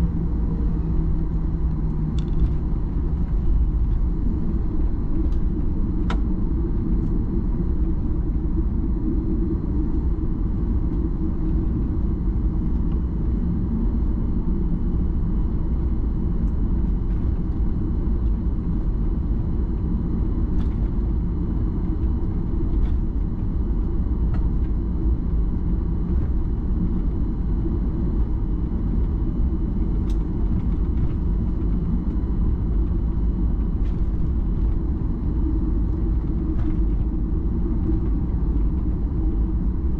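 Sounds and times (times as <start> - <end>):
airliner cabin low rumble: 0.0 - 39.9
faint steady whine: 0.0 - 39.9.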